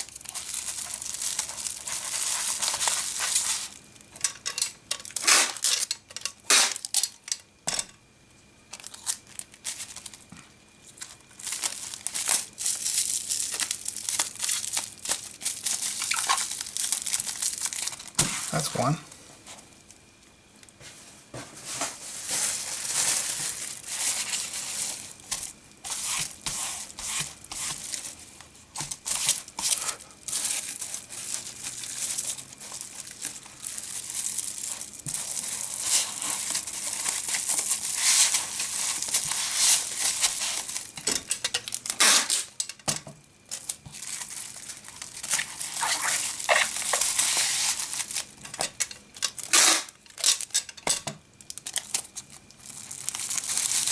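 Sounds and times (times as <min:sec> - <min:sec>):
wrapping material crinkling: 0:00.0 - 0:03.8, 0:08.7 - 0:20.0, 0:21.0 - 0:42.6, 0:43.5 - 0:50.7, 0:51.4 - 0:53.9.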